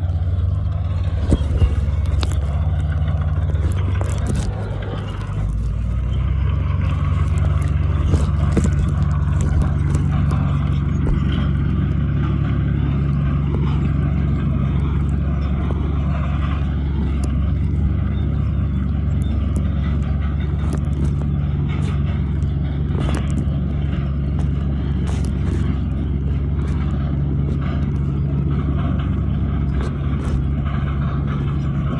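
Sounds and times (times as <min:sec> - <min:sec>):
heavy diesel engine droning: 0:00.0 - 0:31.9
light clicks and clanks: 0:00.0 - 0:31.9.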